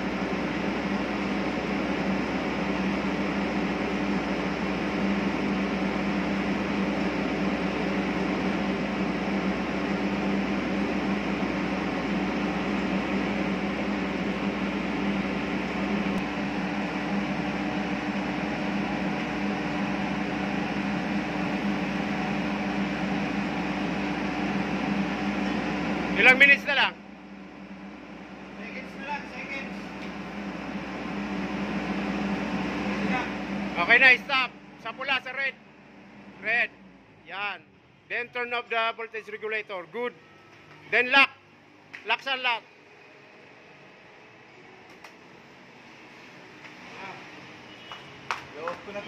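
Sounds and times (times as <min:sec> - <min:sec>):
diesel generator humming: 0:00.0 - 0:49.0.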